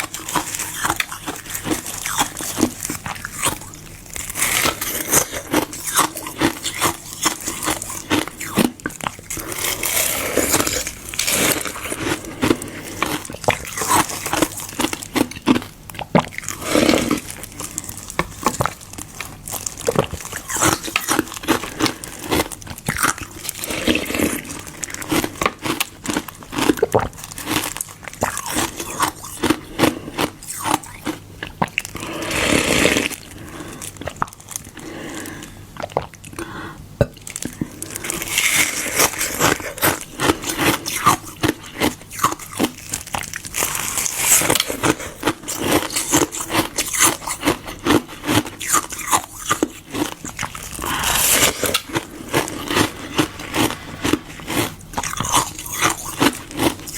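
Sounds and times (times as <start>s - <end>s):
crunching frozen ice: 0.0s - 35.2s, 37.3s - 56.9s.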